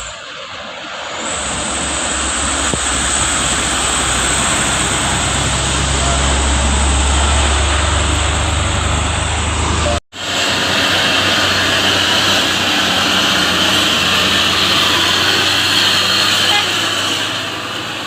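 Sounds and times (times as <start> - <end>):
diesel truck engines under load: 0.0 - 18.0
road noise: 0.0 - 18.0.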